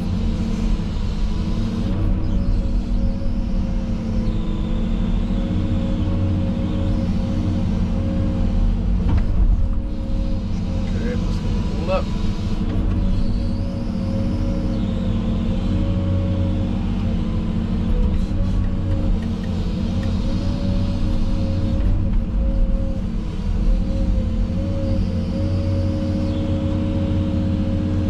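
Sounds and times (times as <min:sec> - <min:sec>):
tractor engine running with whine: 0:00.0 - 0:28.0.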